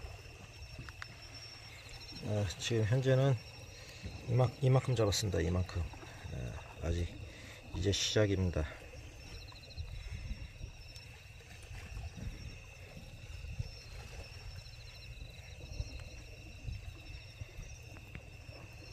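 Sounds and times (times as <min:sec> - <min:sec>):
insects trilling: 0:00.0 - 0:18.9
low constant rumble: 0:00.0 - 0:18.9.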